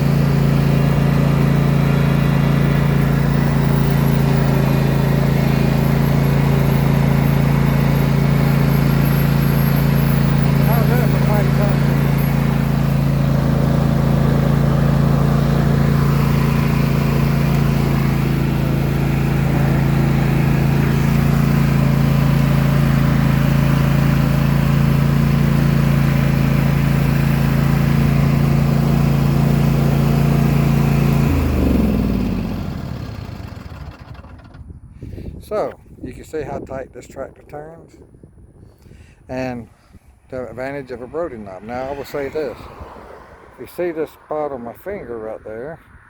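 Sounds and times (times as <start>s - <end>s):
riding lawn mower engine running: 0.0s - 37.8s, 38.8s - 46.0s.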